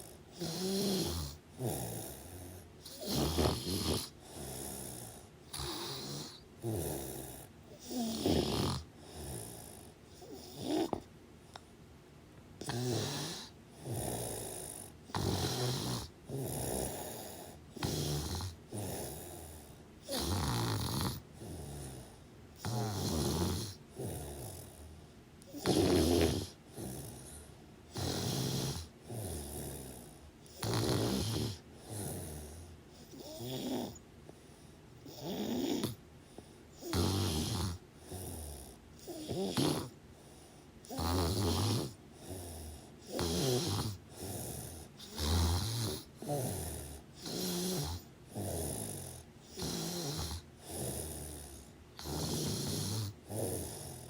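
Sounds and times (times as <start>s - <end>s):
person snoring: 0.0s - 11.0s, 12.6s - 34.0s, 35.0s - 36.0s, 36.8s - 54.0s.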